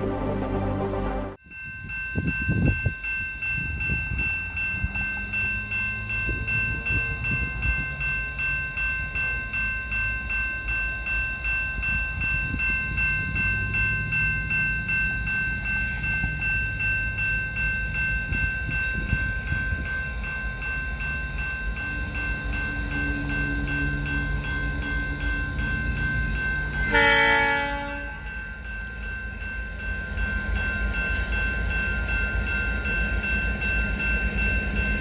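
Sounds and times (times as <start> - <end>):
diesel locomotives rumbling: 0.0 - 35.0
railroad crossing bell ringing: 1.4 - 35.0.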